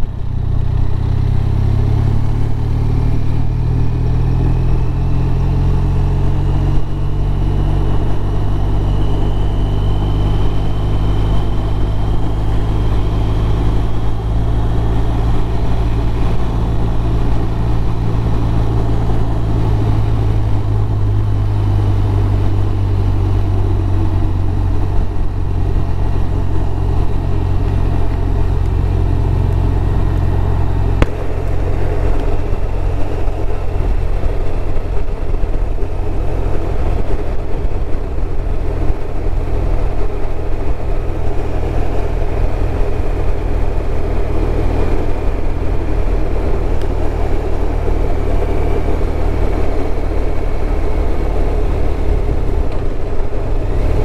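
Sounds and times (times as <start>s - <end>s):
faint high whine: 0.0s - 54.0s
motorcycle engine running: 0.0s - 54.0s
wind and road noise: 0.0s - 54.0s.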